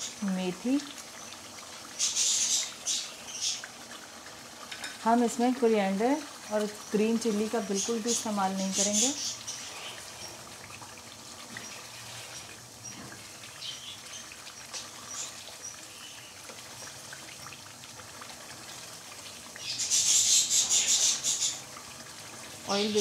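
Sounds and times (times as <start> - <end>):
curry bubbling in a wok: 0.0 - 22.8.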